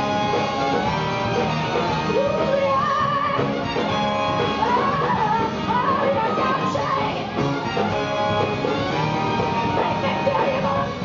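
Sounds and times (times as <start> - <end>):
bass: 0.0 - 11.0
drums: 0.0 - 11.0
electric guitars: 0.0 - 11.0
horn section: 0.0 - 11.0
wavering lead melody: 0.0 - 11.0.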